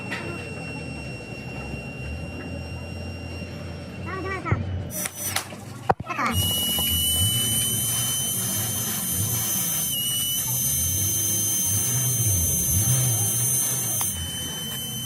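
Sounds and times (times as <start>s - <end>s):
power tool high-pitched whine: 0.0s - 5.4s, 6.3s - 15.0s.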